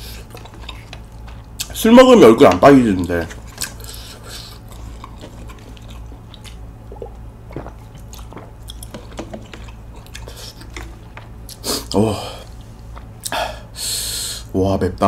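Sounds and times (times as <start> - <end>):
wet chewing and mouth clicks: 0.0 - 1.8, 2.4 - 13.4
steady low hum: 0.0 - 15.0.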